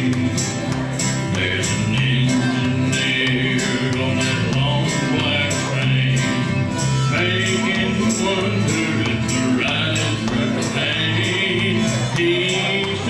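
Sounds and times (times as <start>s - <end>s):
harmonica playing chords: 0.0s - 13.0s
strummed acoustic guitars: 0.0s - 13.0s.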